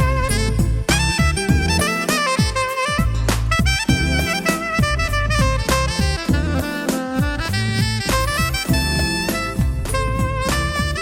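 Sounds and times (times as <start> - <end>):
jazz with saxophone drums and bass: 0.0 - 11.0.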